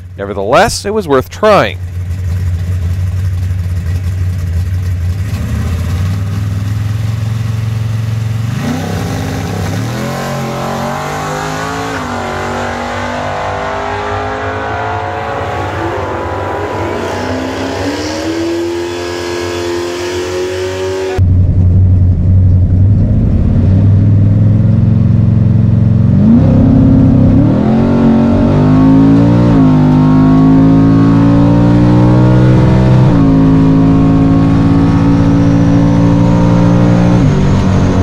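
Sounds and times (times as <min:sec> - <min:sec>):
drag car engine accelerating: 0:01.8 - 0:38.0.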